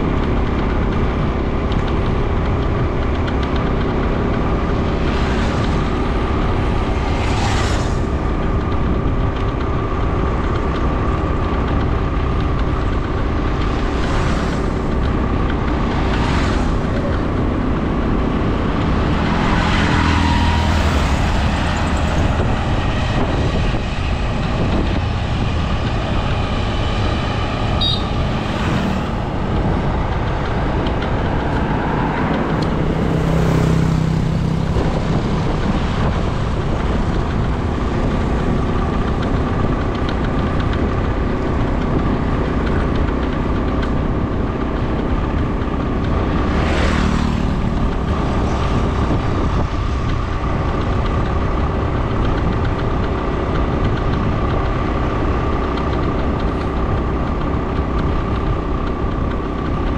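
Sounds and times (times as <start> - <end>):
engine hum: 0.0 - 59.9
rushing wind: 0.0 - 59.9
vehicles passing: 0.0 - 59.9.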